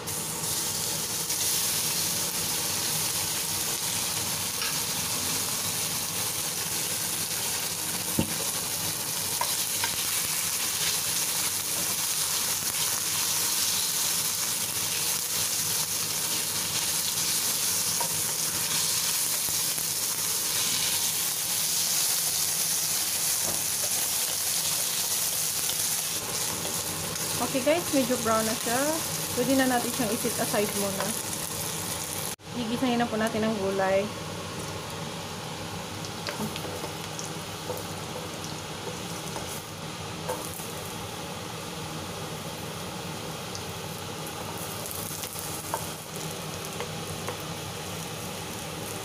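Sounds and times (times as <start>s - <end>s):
meat sizzling in oil: 0.0s - 49.0s.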